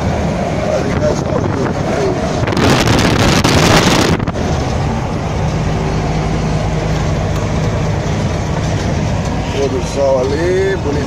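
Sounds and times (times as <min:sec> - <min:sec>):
wind buffeting microphone: 0:00.0 - 0:09.5
road noise inside cab: 0:00.0 - 0:11.0
truck engine running: 0:00.0 - 0:11.0.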